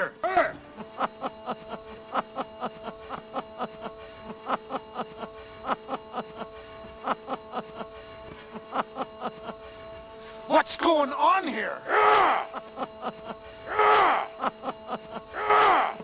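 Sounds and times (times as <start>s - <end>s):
man laughing: 0.0s - 10.0s, 11.5s - 16.0s
steady held musical tone: 0.0s - 16.0s.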